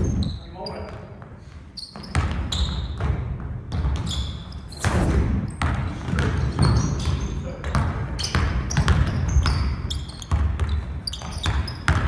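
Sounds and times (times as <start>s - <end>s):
sneaker squeaks: 0.0s - 4.9s, 5.5s - 12.0s
basketball bouncing on gym floor: 0.0s - 12.0s.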